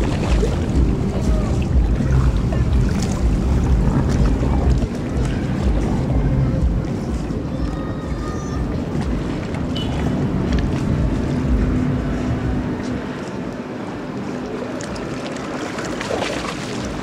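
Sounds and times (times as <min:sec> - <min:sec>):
boat wake: 0:00.0 - 0:17.0
ferry engine rumble: 0:00.0 - 0:17.0
wind buffeting microphone: 0:00.0 - 0:17.0.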